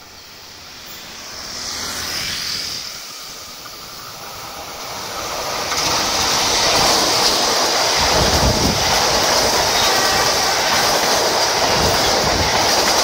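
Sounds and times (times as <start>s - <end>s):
diesel locomotive passing: 0.0s - 13.0s
train coaches rumbling past: 0.0s - 13.0s.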